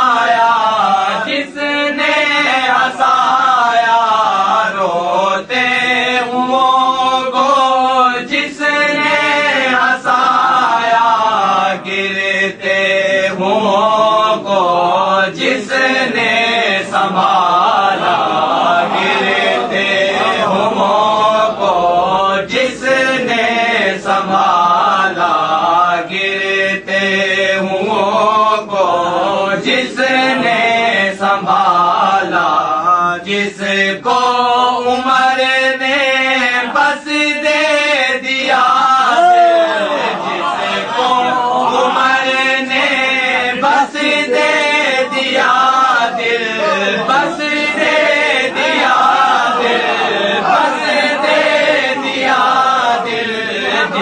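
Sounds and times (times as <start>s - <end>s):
man chanting: 0.0s - 54.0s.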